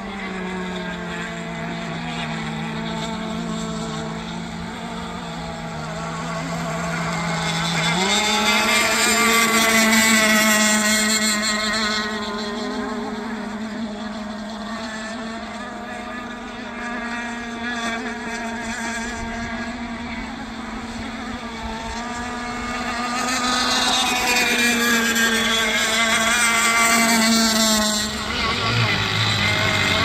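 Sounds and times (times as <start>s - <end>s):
remote control boat motor droning: 0.0s - 30.0s.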